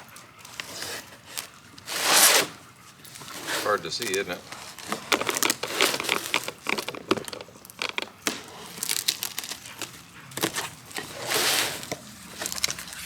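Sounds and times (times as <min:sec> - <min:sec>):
packaging crinkling and snapping: 0:00.0 - 0:13.0.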